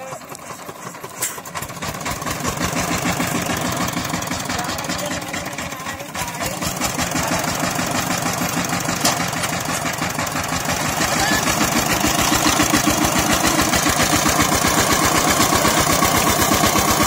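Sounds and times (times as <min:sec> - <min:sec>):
power tiller diesel engine running: 0:00.0 - 0:17.0.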